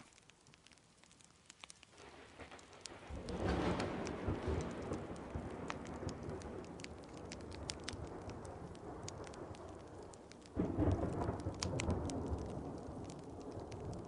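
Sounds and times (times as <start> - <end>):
steady rain: 0.0 - 14.0
wood fire crackling: 0.0 - 14.0
low rumble of thunder: 2.0 - 14.0.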